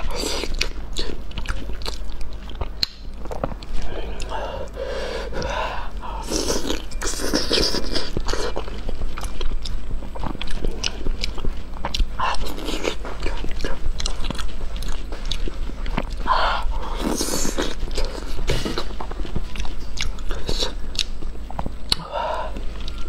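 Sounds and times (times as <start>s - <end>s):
person chewing wet food: 0.0s - 23.0s.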